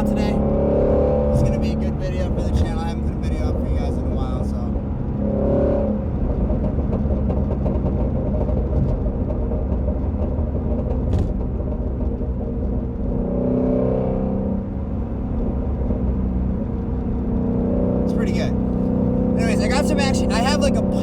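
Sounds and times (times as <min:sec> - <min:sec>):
car engine rumbling: 0:00.0 - 0:13.3, 0:14.5 - 0:21.0.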